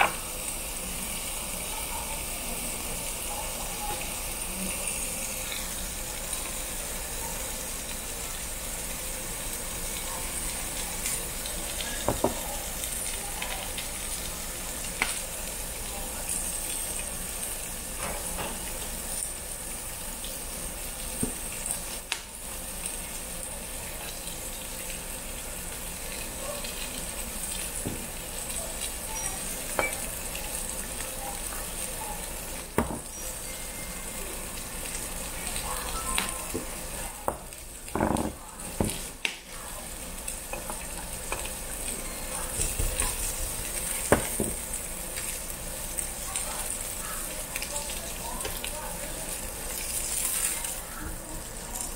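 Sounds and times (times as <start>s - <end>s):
pork sizzling on a griddle: 0.0s - 51.9s.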